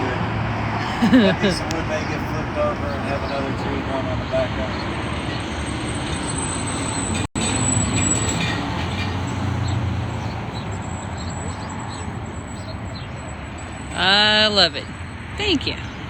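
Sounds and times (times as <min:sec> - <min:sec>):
heavy street traffic rumble: 0:00.0 - 0:16.0
vehicles passing close by: 0:00.0 - 0:16.0.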